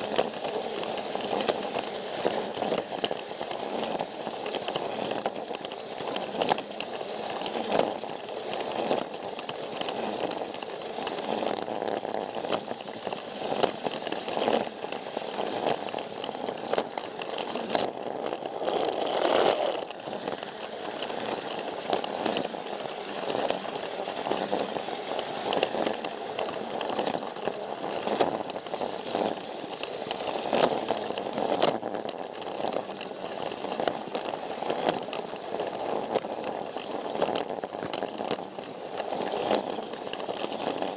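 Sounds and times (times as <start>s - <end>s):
toy train motor whirring rattle: 0.0s - 40.9s
wheels clicking over track joints: 0.0s - 40.9s.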